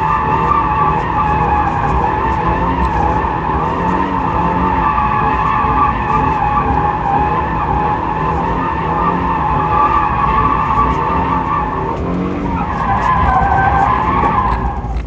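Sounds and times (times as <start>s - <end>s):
car engine drone: 0.0s - 15.0s
tyres squealing: 0.0s - 15.0s.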